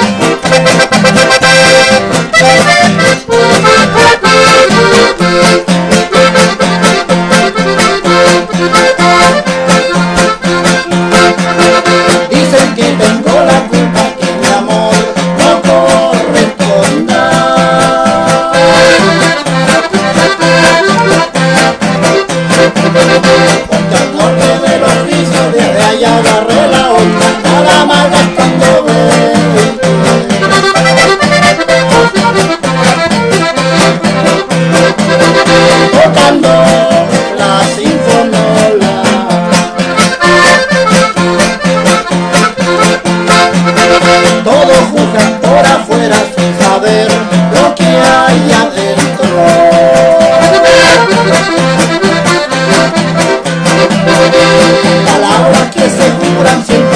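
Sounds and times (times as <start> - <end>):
piano accordion playing: 0.0 - 16.1, 17.0 - 45.8, 46.6 - 56.9
strummed acoustic guitar: 0.0 - 56.9.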